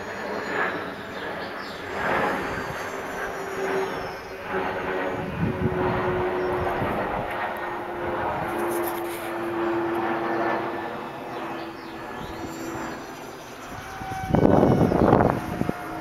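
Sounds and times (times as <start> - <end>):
electric motor and propeller whine: 0.0 - 16.0.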